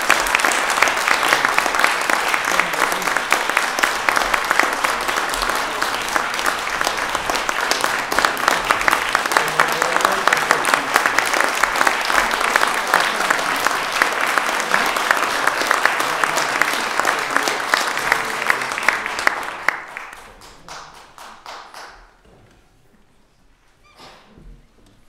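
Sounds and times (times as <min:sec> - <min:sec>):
audience applauding: 0:00.0 - 0:22.2.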